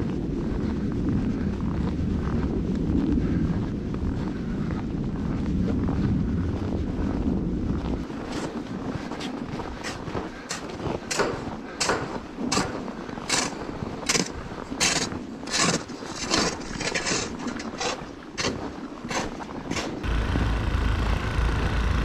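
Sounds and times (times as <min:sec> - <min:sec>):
footsteps crunching through snow: 0:00.0 - 0:20.3.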